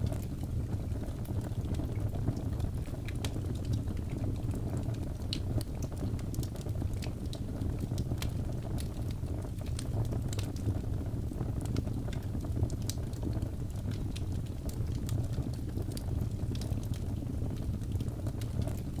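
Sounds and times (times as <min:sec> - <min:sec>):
burning logs crackling and popping: 0:00.0 - 0:19.0
low roar of flames: 0:00.0 - 0:19.0.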